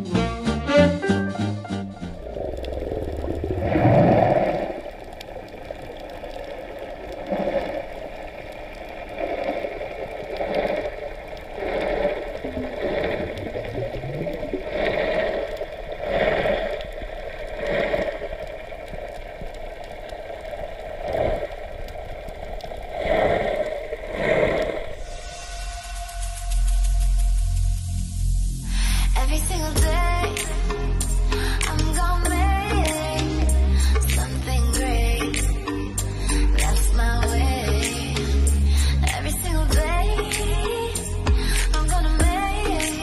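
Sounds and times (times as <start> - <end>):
water rushing and bubbling underwater: 1.9 - 43.0.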